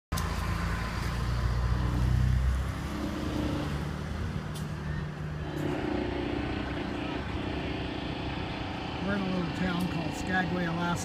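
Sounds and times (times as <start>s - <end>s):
large vehicle engine droning: 0.1s - 11.0s.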